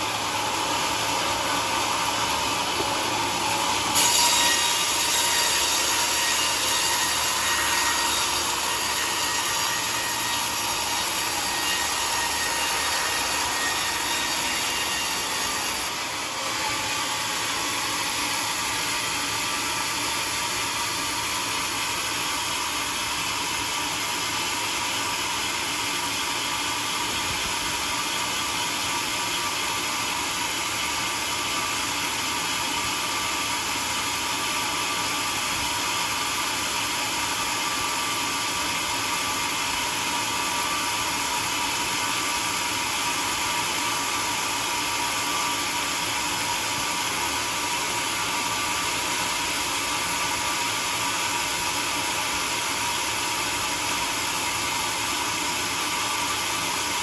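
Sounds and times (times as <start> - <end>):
sawmill cutting wooden log: 0.0 - 57.0.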